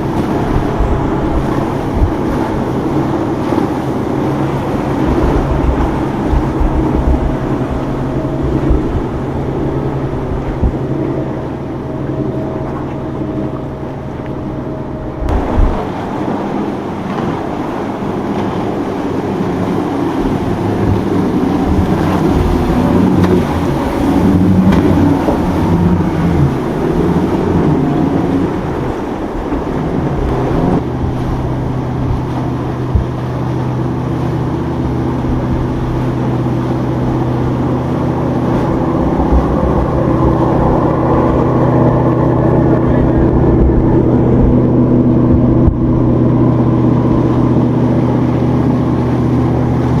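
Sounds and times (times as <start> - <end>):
motorboat engines: 0.0 - 50.0
water noise: 0.0 - 50.0
wind: 0.0 - 50.0.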